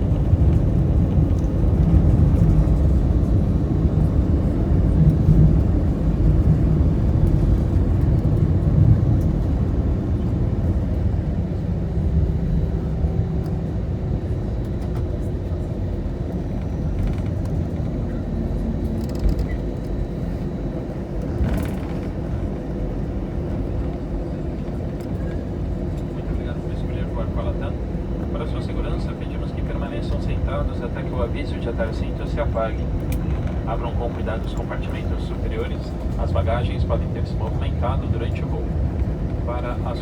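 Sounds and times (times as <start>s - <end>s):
engine and wheels rumbling: 0.0s - 40.0s.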